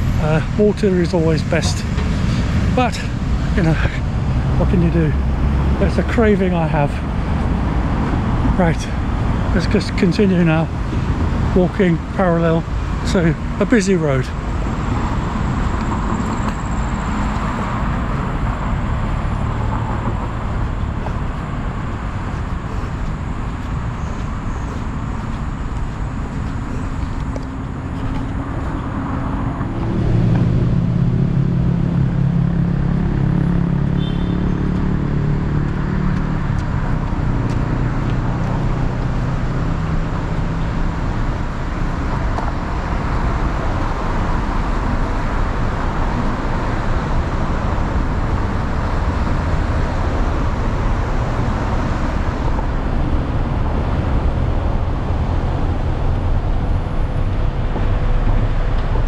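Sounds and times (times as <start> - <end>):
large vehicle engine hum: 0.0 - 59.0
traffic passing: 0.0 - 59.0.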